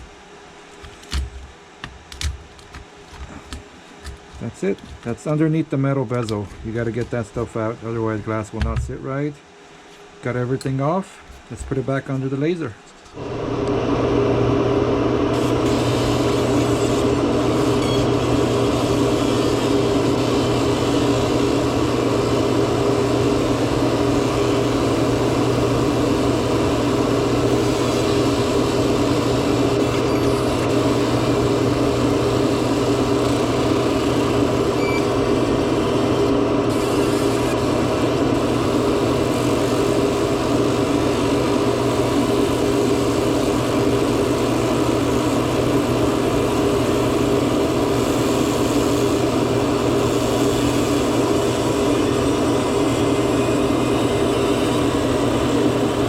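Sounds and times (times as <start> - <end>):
cooling fans droning: 0.0 - 56.0
laser machine humming: 0.0 - 56.0.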